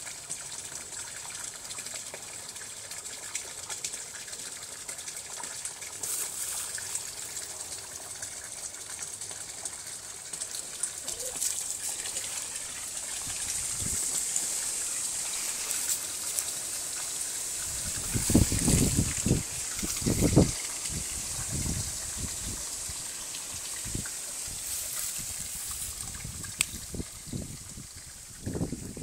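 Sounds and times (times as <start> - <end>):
pond waterfall splashing: 0.0 - 29.0.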